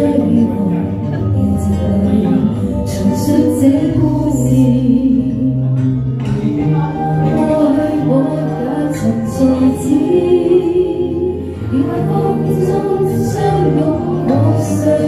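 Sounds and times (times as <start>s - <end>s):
woman singing into microphone: 0.0s - 6.3s, 6.9s - 15.0s
music backing track: 0.0s - 15.0s.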